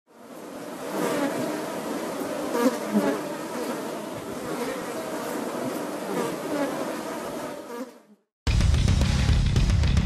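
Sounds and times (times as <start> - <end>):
swarm of insects buzzing: 0.1 - 8.3.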